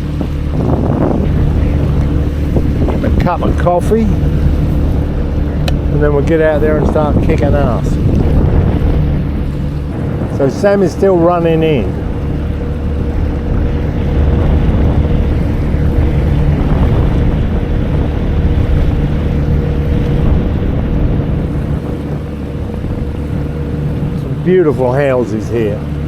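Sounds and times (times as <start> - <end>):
jet ski engine running: 0.0 - 26.0
water wash: 0.0 - 26.0
wind on microphone: 0.0 - 26.0.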